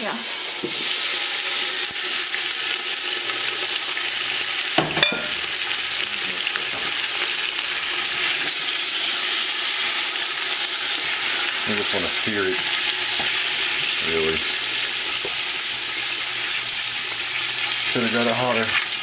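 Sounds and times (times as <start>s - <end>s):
meat sizzling in a pot: 0.0s - 19.0s.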